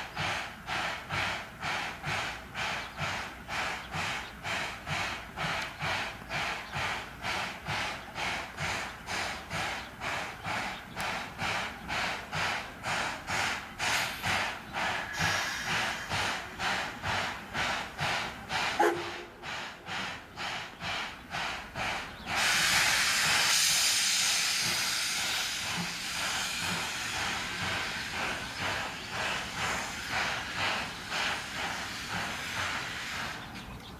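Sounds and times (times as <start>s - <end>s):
steam hissing: 0.0s - 33.8s
steam locomotive puffing: 0.0s - 33.8s.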